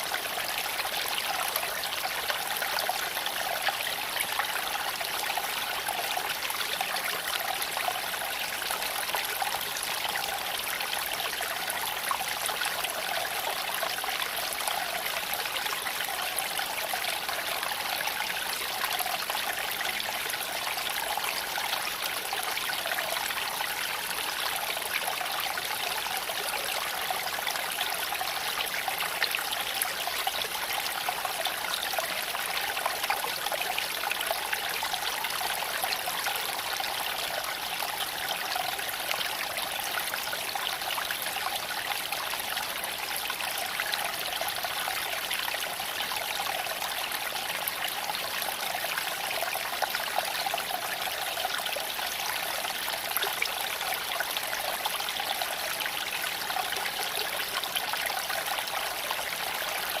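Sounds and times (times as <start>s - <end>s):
creek trickling over stones: 0.0s - 60.0s.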